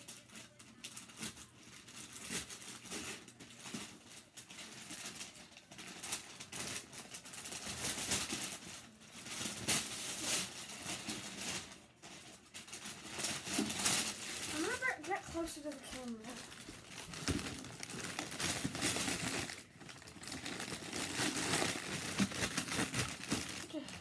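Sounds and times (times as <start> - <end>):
wrapping paper tearing and rustling: 0.0 - 24.0.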